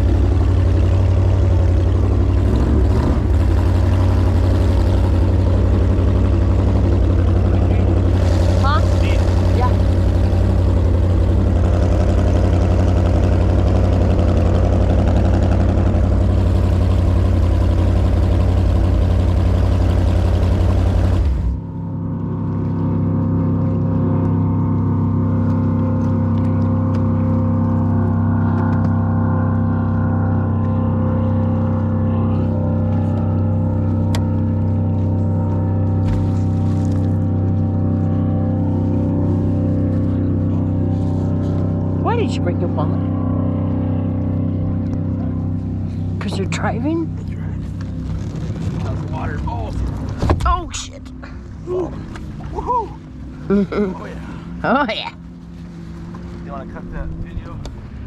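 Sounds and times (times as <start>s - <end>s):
jet boat engine running: 0.0s - 58.0s.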